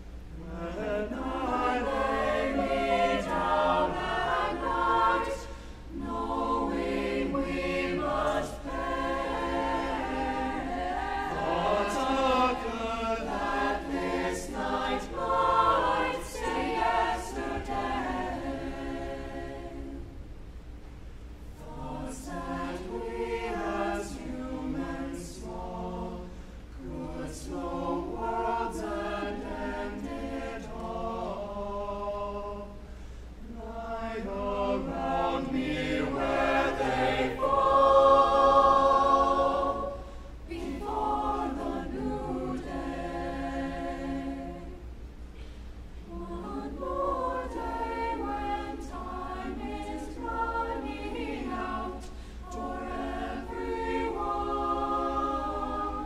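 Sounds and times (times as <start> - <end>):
choir singing in harmony: 0.0 - 20.7, 21.4 - 56.0.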